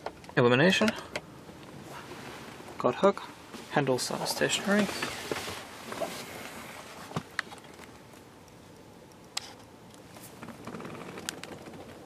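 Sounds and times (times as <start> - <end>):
low steady hiss: 0.0 - 10.5.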